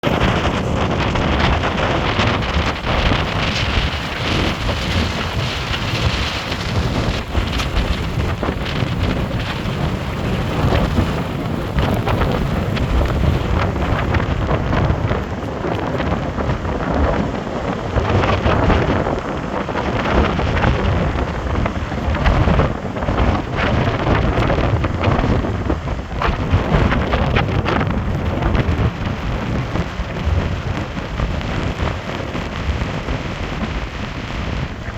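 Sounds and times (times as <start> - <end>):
rain: 0.0 - 34.9
wind buffeting microphone: 0.0 - 34.9.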